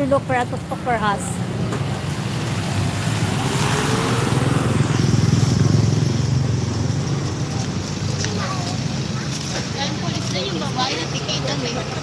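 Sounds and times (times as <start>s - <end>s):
vehicle engine passing by: 1.9s - 12.0s.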